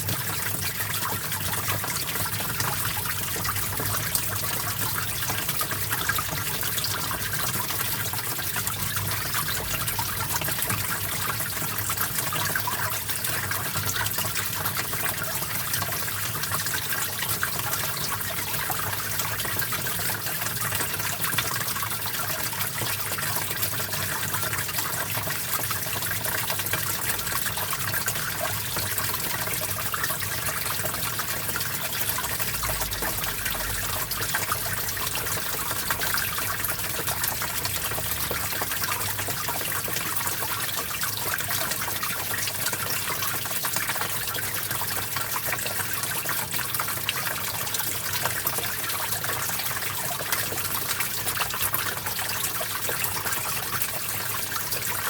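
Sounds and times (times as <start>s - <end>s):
water trickling over rocks: 0.0s - 55.0s.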